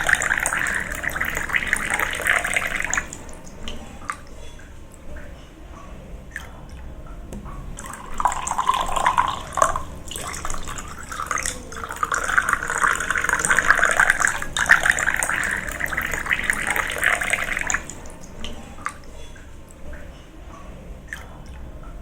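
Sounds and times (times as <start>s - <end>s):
water dripping and trickling: 0.0s - 22.0s.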